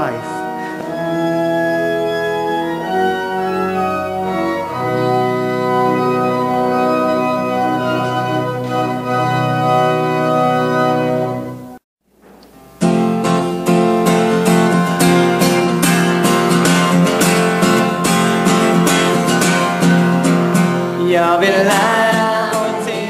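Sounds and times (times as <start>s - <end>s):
church organ chords: 0.0s - 11.8s, 12.9s - 23.0s.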